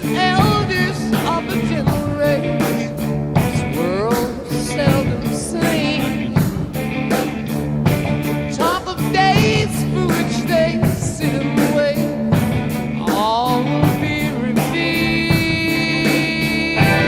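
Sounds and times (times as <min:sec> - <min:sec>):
person singing: 0:00.0 - 0:07.4, 0:08.5 - 0:17.0
drum beat: 0:00.0 - 0:17.0
guitar: 0:00.0 - 0:17.0.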